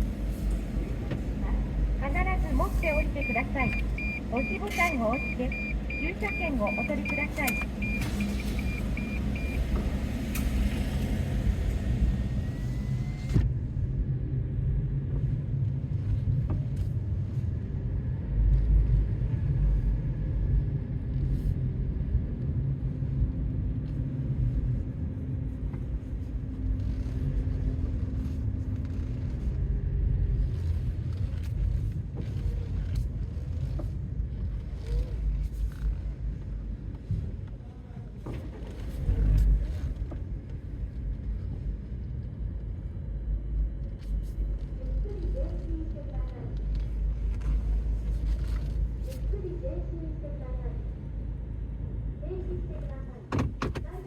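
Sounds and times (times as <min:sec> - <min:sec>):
car rumbling from inside: 0:00.0 - 0:54.0.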